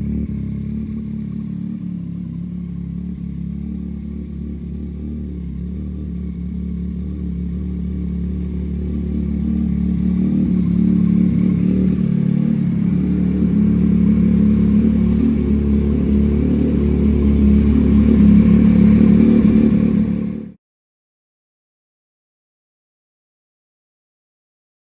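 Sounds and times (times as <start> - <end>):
loud motorcycle engine running: 0.0 - 20.6.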